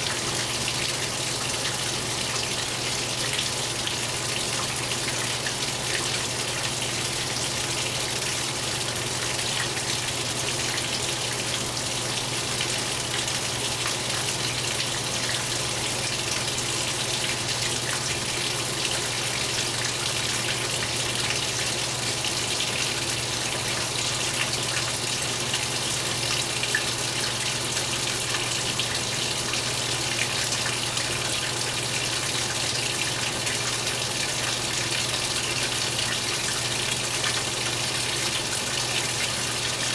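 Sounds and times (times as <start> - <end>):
water rushing in washing machine: 0.0 - 39.9.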